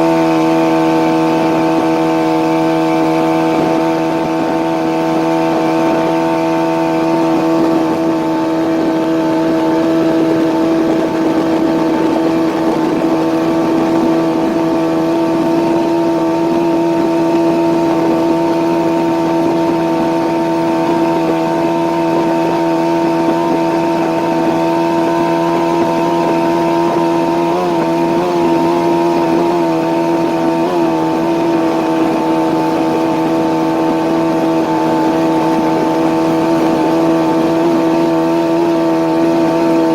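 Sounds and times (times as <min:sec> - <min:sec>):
outboard motor droning: 0:00.0 - 0:39.9.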